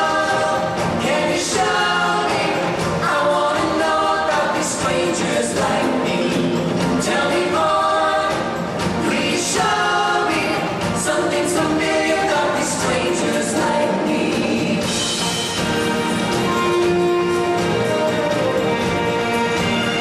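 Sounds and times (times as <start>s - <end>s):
group of voices singing: 0.0s - 20.0s
stage-show music: 0.0s - 20.0s.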